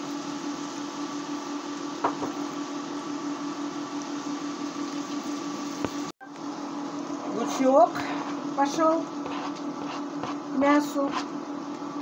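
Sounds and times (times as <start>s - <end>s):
food sizzling in a pan: 0.0s - 11.5s
induction hob hum: 0.0s - 12.0s.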